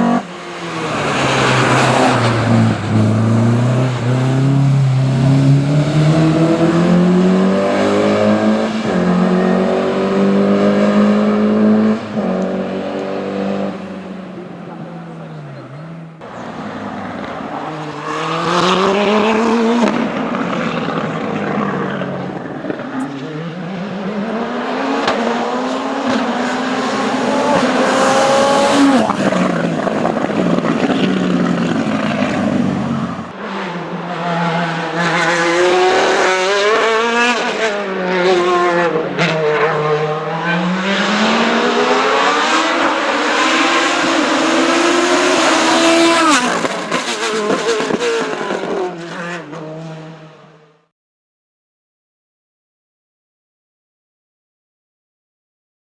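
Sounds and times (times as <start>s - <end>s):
race car engines revving: 0.0s - 50.8s.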